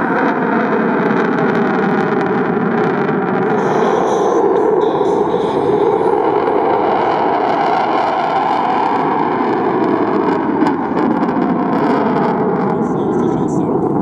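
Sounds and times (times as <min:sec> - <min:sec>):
aircraft engine roaring: 0:00.0 - 0:14.0.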